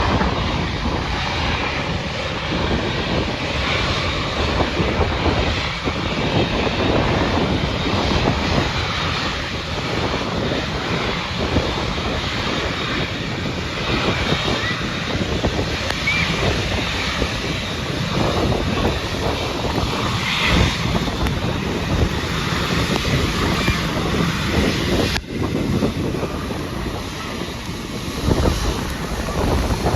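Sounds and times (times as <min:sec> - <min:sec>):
jet engines rushing: 0:00.0 - 0:29.9.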